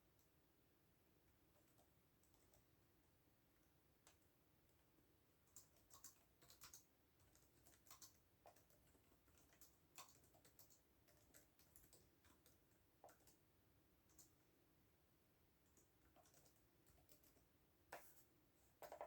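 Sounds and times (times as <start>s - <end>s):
soft keyboard typing: 1.2s - 14.6s, 15.6s - 19.0s.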